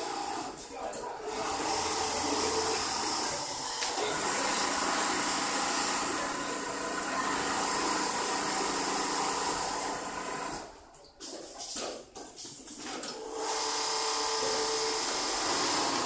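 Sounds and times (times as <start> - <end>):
sewing machines humming: 0.0 - 10.9, 13.1 - 16.0.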